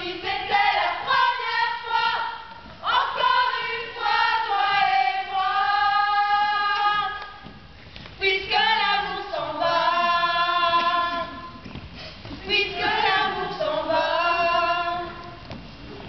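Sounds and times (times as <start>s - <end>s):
voices singing held notes: 0.0s - 7.5s, 8.2s - 15.7s.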